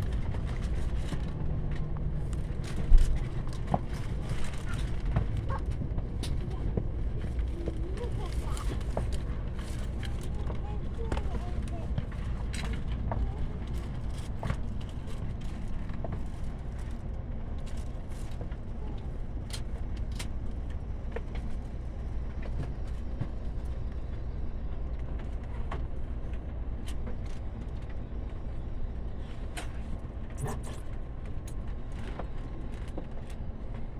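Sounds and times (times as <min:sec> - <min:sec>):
train rumble inside carriage: 0:00.0 - 0:33.9.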